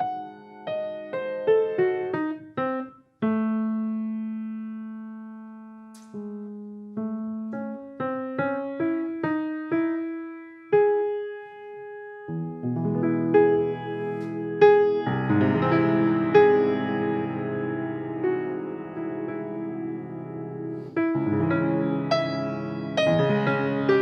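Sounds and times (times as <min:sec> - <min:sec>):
solo piano: 0:00.0 - 0:24.0.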